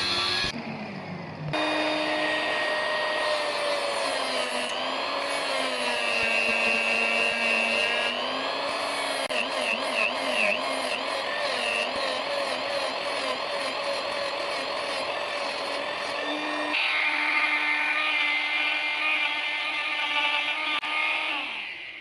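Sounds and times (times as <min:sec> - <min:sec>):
electric power tool whining on metal: 0:00.0 - 0:22.0.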